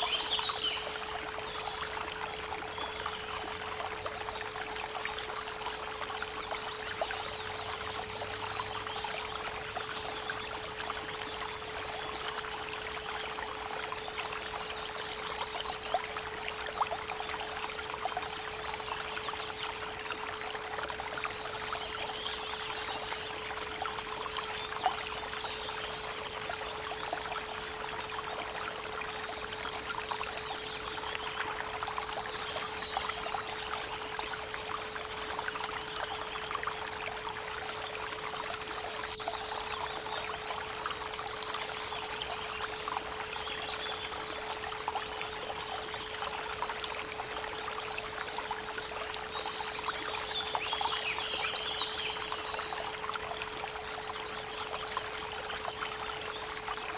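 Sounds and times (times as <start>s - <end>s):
creek water running: 0.0s - 56.9s.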